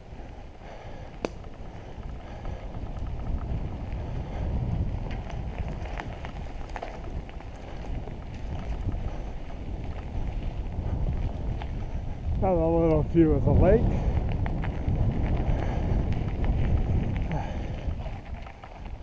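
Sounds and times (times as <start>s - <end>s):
bike clicks and rattles: 0.0s - 19.0s
bike rolling on dirt trail: 0.0s - 19.0s
wind buffeting microphone: 0.0s - 19.0s.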